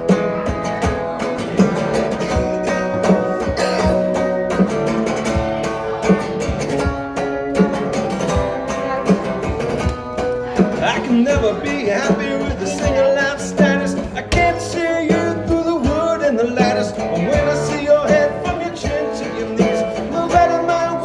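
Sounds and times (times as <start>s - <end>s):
guitar playing: 0.0s - 21.0s.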